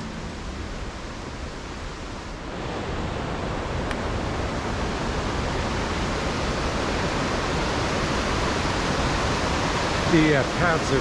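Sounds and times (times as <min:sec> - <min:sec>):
waterfall rushing: 0:00.0 - 0:10.5.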